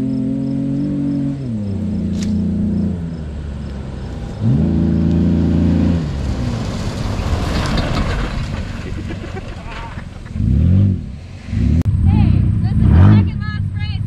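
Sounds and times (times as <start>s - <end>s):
car engine revving hard: 0.0s - 8.1s, 10.3s - 13.5s
rough engine noise: 0.0s - 14.0s.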